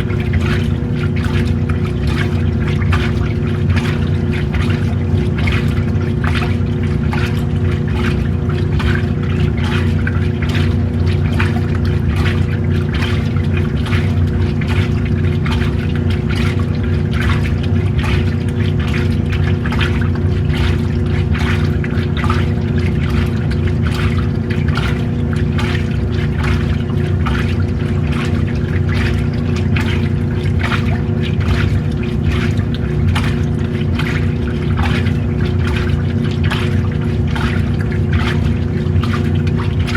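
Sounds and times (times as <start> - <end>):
washing machine motor hum: 0.0 - 39.9
water sloshing in tub: 0.0 - 39.9.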